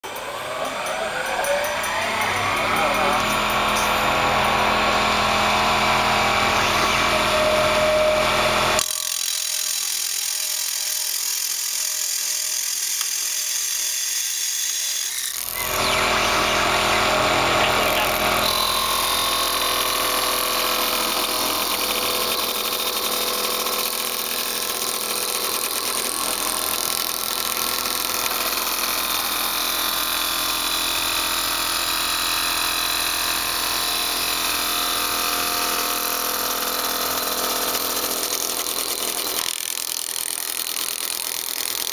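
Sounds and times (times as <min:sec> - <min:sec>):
lathe machine running: 0:00.0 - 0:14.7, 0:15.4 - 0:40.1
lathe tool cutting wood: 0:00.0 - 0:41.9.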